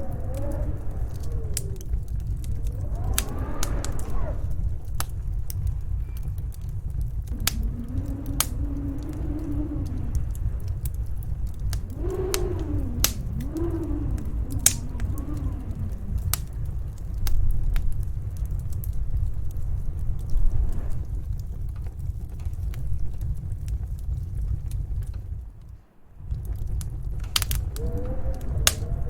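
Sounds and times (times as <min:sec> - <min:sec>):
howling storm wind: 0:00.0 - 0:29.0
wood fire crackling and popping: 0:00.0 - 0:29.0.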